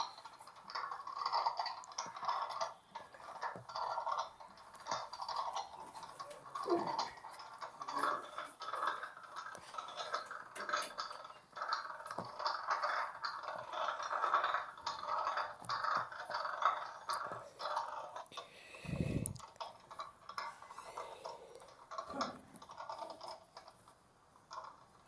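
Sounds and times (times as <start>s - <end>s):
washing machine churning: 0.0s - 25.0s.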